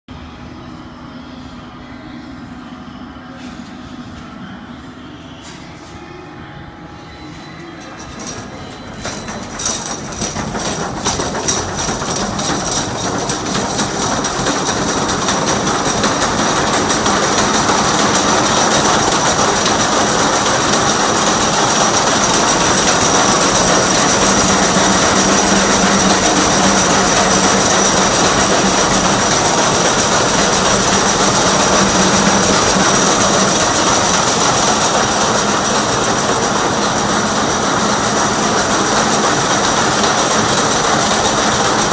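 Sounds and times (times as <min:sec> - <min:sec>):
constant high machine tone: 0:00.2 - 0:41.9
braiding machine clattering: 0:07.6 - 0:41.9.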